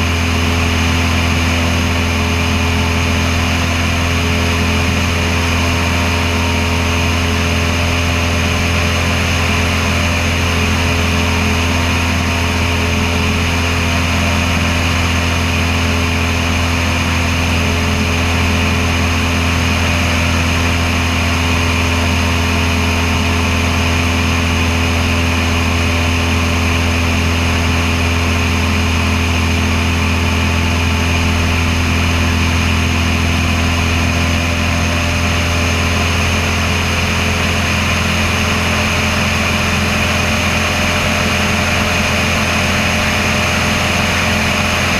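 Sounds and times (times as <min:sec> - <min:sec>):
airplane engine and propeller droning: 0:00.0 - 0:44.9.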